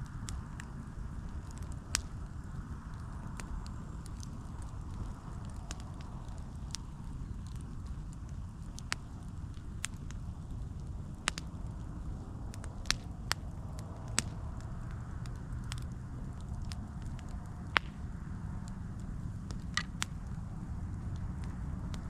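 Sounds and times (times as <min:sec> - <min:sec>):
low rumble of flames: 0:00.0 - 0:22.0
wood crackling and popping: 0:00.0 - 0:22.0.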